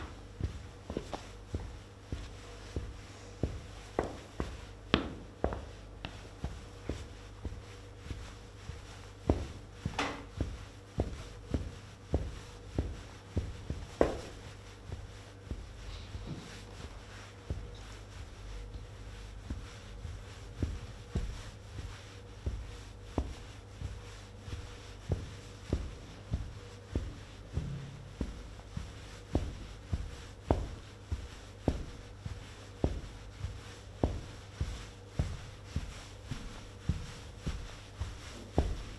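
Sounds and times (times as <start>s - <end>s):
faint steady hum: 0.0s - 38.9s
footstep scuff: 0.0s - 38.9s
soft footsteps on cloth: 0.0s - 38.9s.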